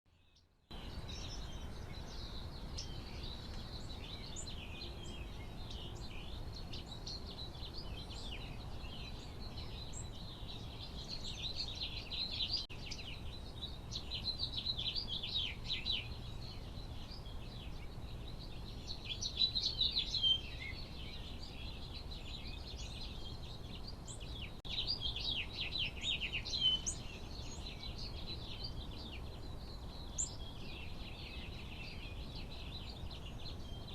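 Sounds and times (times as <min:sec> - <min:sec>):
birds chirping and calling: 0:00.7 - 0:33.9.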